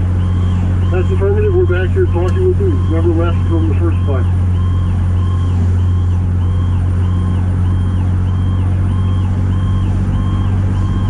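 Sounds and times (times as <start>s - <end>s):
diesel engine droning: 0.0s - 11.0s
fire truck siren yelping: 0.0s - 11.0s.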